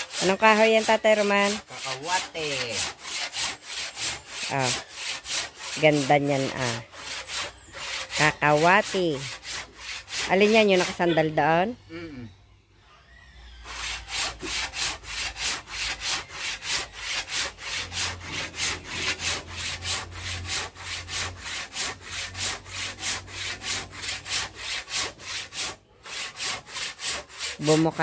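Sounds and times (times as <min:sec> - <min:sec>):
handsaw cutting wood: 0:00.0 - 0:11.6, 0:13.6 - 0:28.0.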